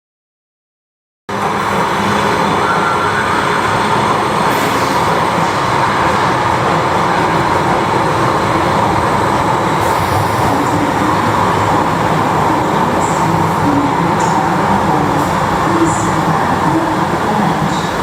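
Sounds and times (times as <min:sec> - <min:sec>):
train rumbling through station: 0:01.3 - 0:18.0.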